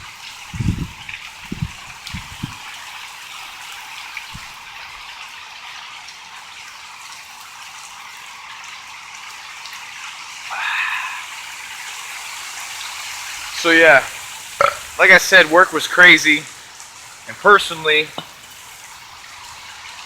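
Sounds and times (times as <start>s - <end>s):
heavy rain hiss: 0.0s - 20.0s.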